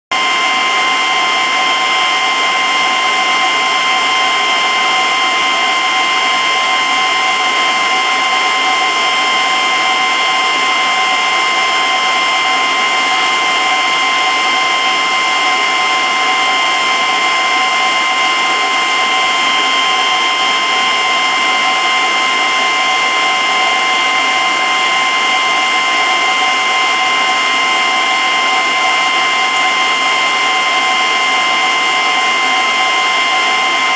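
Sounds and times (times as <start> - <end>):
aquarium pump whirring: 0.1 - 33.9.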